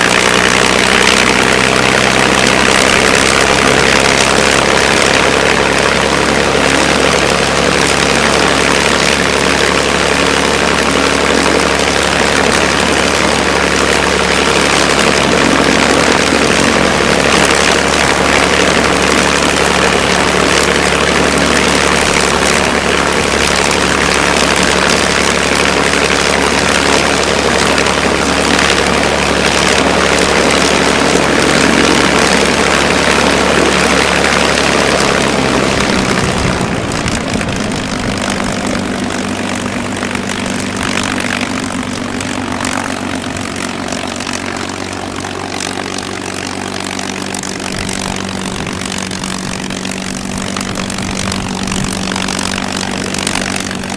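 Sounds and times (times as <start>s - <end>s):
aircraft piston engine running: 0.0s - 53.9s
propeller turning: 0.0s - 53.9s.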